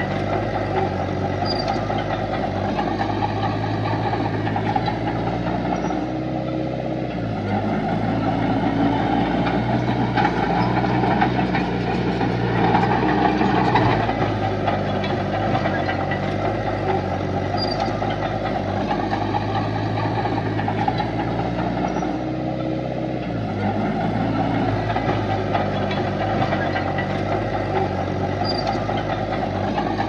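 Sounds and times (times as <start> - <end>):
heavy diesel engine under load: 0.0 - 30.0.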